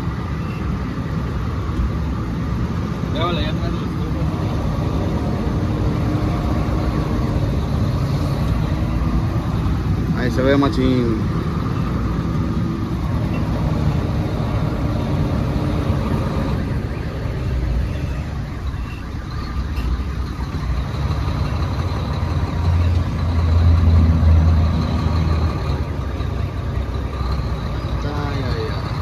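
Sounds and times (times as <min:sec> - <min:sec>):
truck diesel engine rumbling: 0:00.0 - 0:29.0.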